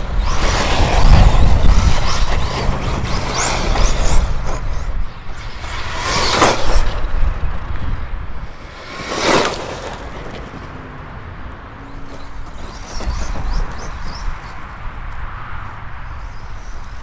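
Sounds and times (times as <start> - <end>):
rc truck scratching on dirt: 0.0 - 10.8, 11.8 - 17.0
rc truck whooshing past: 0.0 - 10.8, 11.8 - 17.0.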